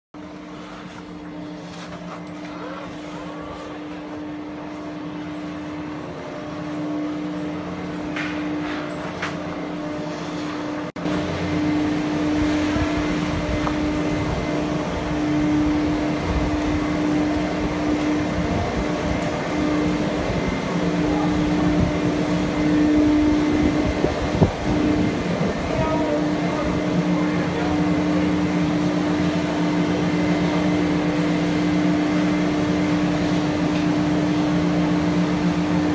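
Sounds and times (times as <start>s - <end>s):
chairlift machinery humming: 0.2s - 35.9s.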